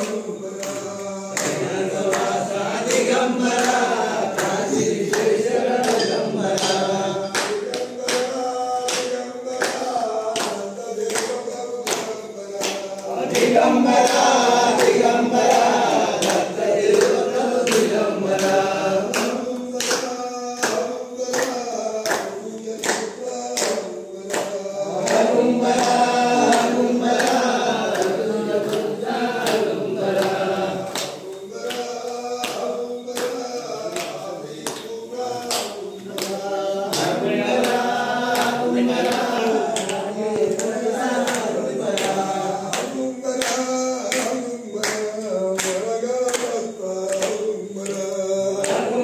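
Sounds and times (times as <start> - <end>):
hands clapping in time: 0.0 - 49.0
men singing in unison: 0.0 - 49.0.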